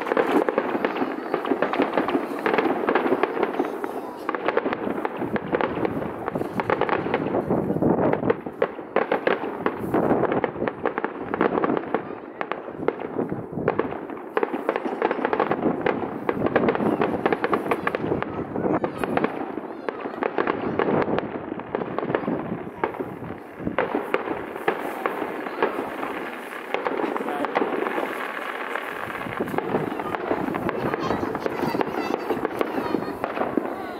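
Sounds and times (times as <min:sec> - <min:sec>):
fireworks cracking and banging: 0:00.0 - 0:33.9.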